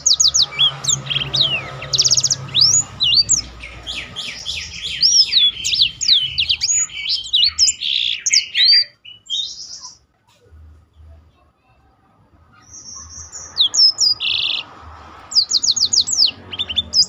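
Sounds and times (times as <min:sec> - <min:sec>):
songbird singing whistled trills: 0:00.0 - 0:10.0, 0:12.6 - 0:14.7, 0:15.4 - 0:17.0.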